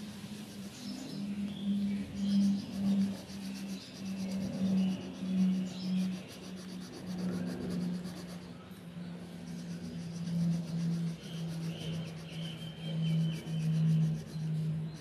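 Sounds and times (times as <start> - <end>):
pencil scratching on paper: 2.1 - 15.0.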